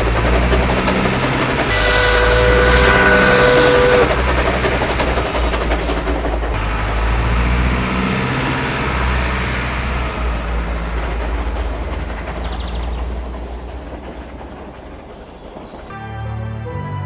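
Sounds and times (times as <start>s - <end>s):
truck engine droning: 0.0s - 15.4s
road noise: 0.0s - 15.7s.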